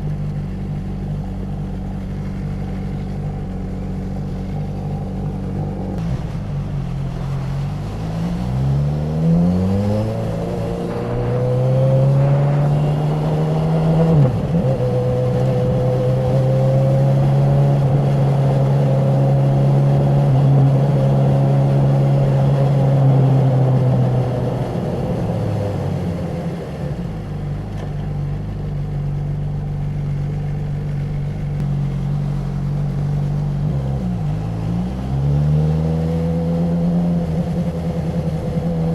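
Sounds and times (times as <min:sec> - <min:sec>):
motorcycle engine revving: 0:00.0 - 0:28.4, 0:29.0 - 0:38.9.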